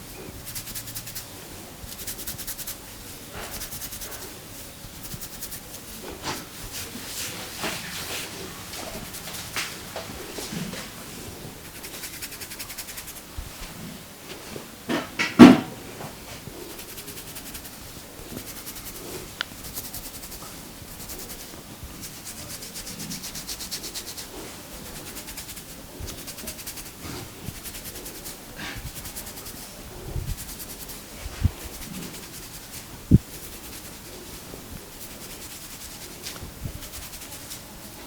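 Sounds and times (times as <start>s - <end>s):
hands rubbing hair: 0.0s - 14.0s, 16.3s - 38.0s.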